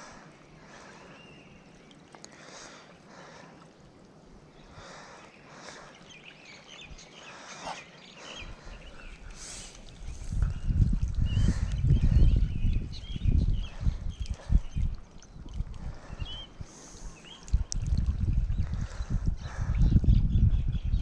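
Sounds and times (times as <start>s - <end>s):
hissing outdoor wash: 0.0s - 19.7s.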